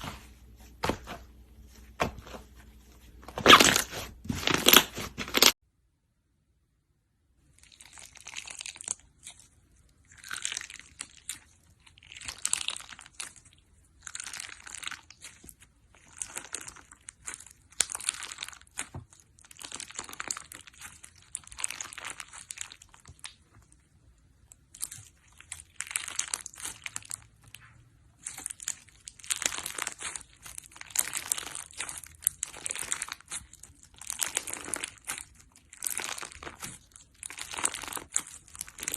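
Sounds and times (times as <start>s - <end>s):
slime squeezed crackling: 7.5s - 38.9s.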